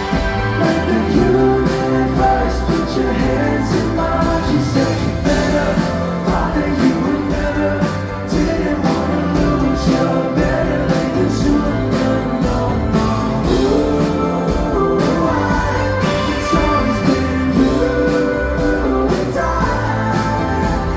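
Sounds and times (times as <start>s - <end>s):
live pop-rock band music: 0.0s - 20.9s
steady drum beat: 0.0s - 20.9s.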